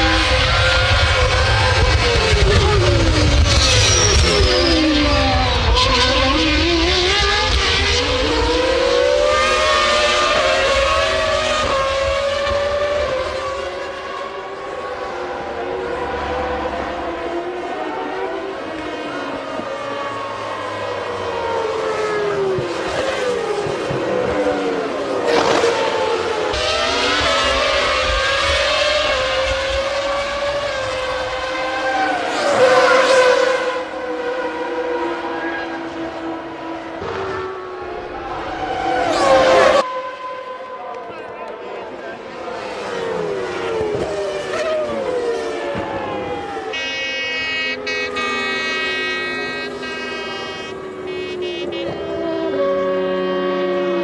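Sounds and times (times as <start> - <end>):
racing car engines at high revs: 0.0 - 54.0.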